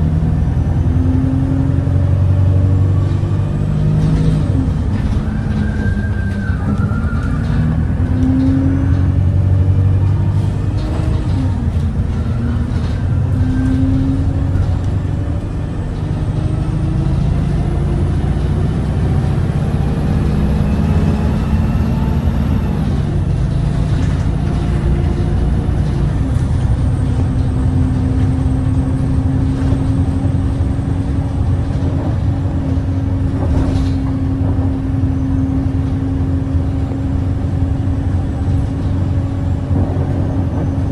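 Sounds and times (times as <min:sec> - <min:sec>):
bus engine under way: 0:00.0 - 0:40.9
bus vibrating: 0:00.0 - 0:40.9.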